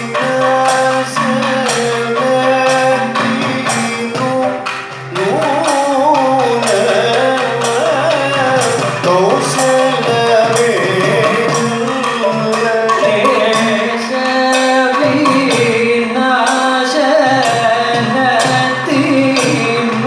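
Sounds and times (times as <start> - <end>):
drums: 0.0 - 20.0
men singing: 0.0 - 20.0.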